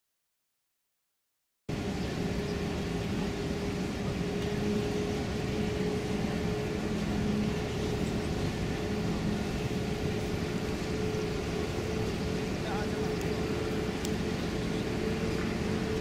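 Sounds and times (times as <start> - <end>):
constant hum: 1.7 - 16.0
ship machinery drone: 1.7 - 16.0.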